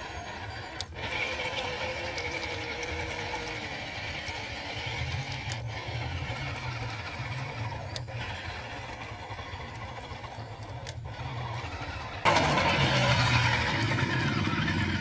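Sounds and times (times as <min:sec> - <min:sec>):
rc car electric motor and gears: 0:00.0 - 0:15.0.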